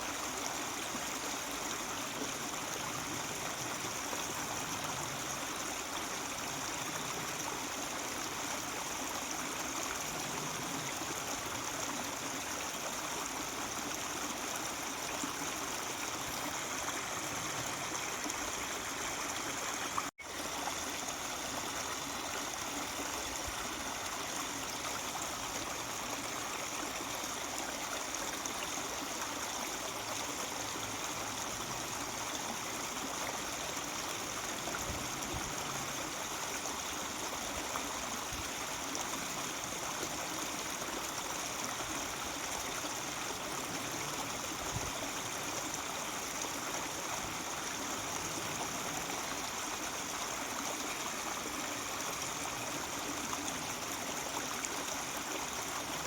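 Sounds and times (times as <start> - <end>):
stream babbling over rocks: 0.0 - 56.0.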